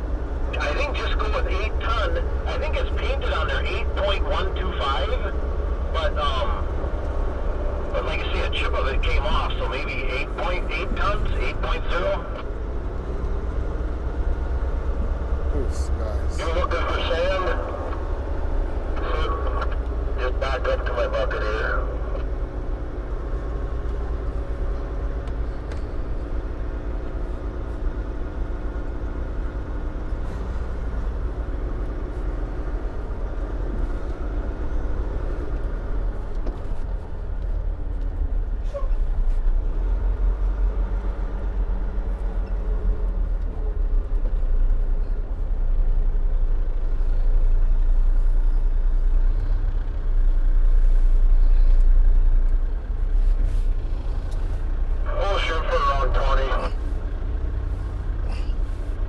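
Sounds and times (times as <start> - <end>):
diesel truck engine from cab: 0.0 - 59.0.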